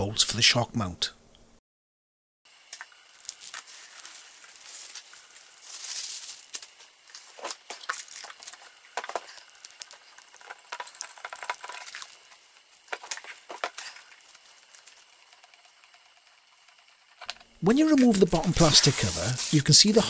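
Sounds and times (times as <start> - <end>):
plastic packaging crinkling: 2.8 - 17.2, 17.8 - 20.0.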